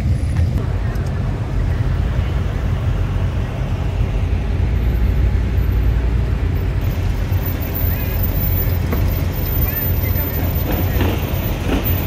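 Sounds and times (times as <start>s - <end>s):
car engines rumbling past: 0.0s - 12.0s.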